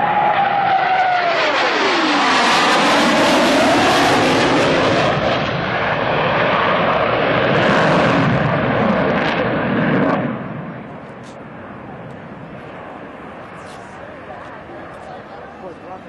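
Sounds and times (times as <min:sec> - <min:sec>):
jet engines rushing: 0:00.0 - 0:16.0
jet flyby whine: 0:00.0 - 0:16.0.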